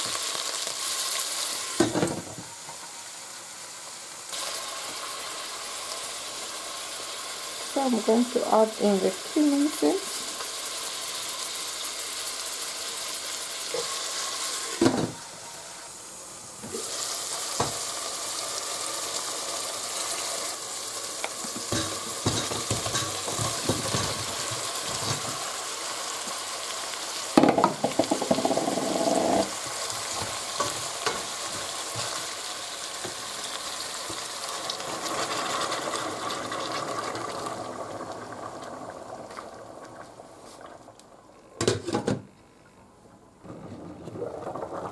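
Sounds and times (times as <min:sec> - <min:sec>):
sizzling in hot oil: 0:00.0 - 0:41.1.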